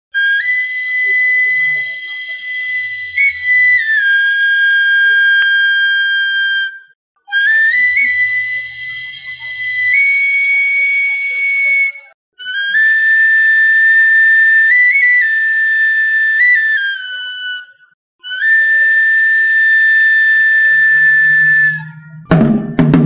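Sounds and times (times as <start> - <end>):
flute-like wind instrument melody: 0.1 - 23.0.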